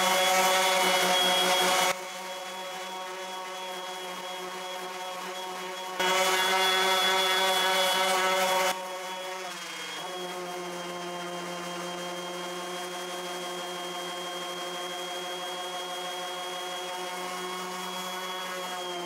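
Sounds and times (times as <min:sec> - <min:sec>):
orbital sander whining: 0:00.0 - 0:19.0.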